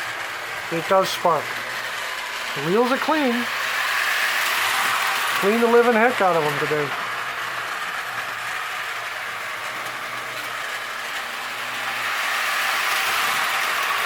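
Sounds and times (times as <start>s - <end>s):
toy train motor whirring on rails: 0.0s - 14.0s.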